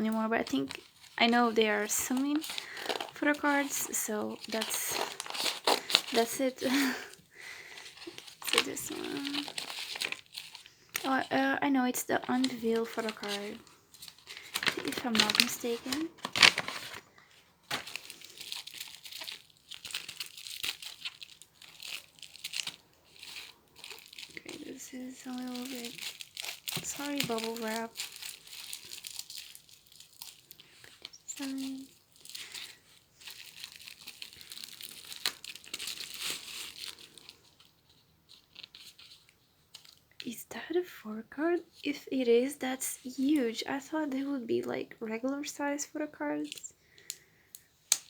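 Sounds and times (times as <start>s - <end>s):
bubble wrap crinkling and tearing: 0.0s - 40.2s, 46.4s - 48.0s.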